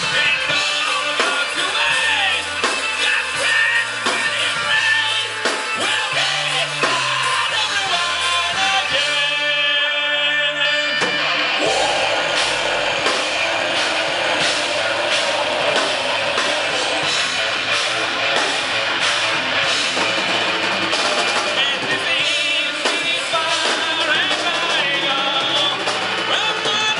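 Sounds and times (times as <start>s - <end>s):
drums keeping steady beat: 0.0s - 9.7s, 10.8s - 26.9s
rock band playing live: 0.0s - 26.9s.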